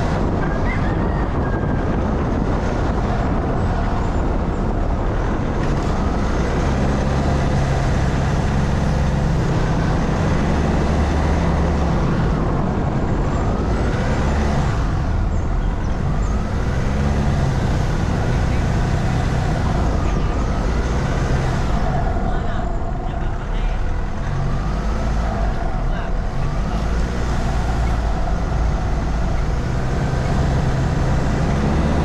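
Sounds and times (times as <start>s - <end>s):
road noise: 0.0s - 32.0s
vehicle engine running: 0.0s - 32.0s.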